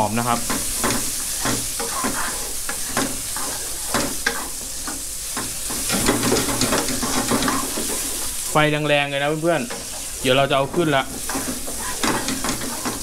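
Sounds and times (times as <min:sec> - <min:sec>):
mushrooms sizzling in oil: 0:00.0 - 0:13.0
wooden spatula scraping pan: 0:00.3 - 0:08.5, 0:09.1 - 0:13.0.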